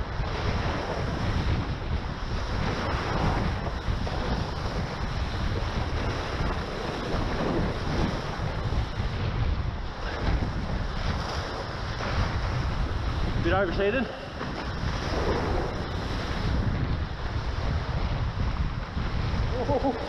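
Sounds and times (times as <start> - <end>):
water rushing past hulls: 0.0 - 20.0
wind buffeting microphone: 0.0 - 20.0.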